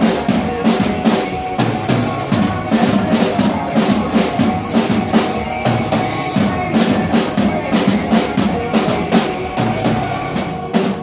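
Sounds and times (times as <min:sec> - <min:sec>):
drum kit beat: 0:00.0 - 0:11.0
pop backing track: 0:00.0 - 0:11.0.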